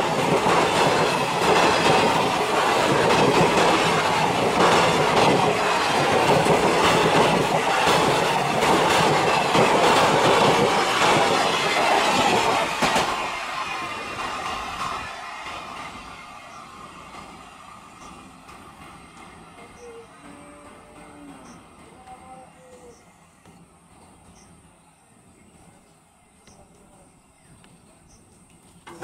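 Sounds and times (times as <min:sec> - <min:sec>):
train wheels clattering over rails: 0:00.0 - 0:24.7, 0:25.6 - 0:29.0.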